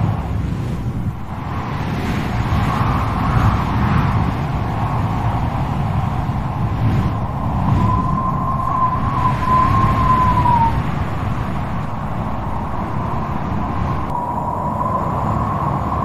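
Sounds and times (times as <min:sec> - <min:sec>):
strong wind blowing in gusts: 0:00.0 - 0:16.0.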